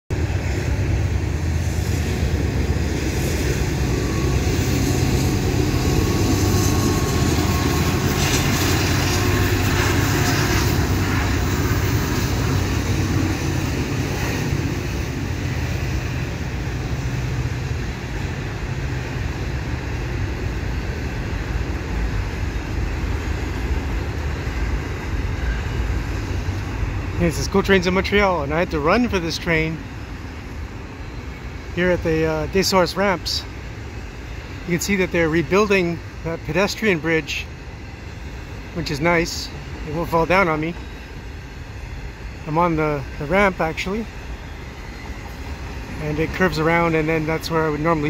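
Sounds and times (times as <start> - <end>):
diesel locomotives rumbling: 0.1 - 48.0
freight cars rolling by: 0.1 - 48.0.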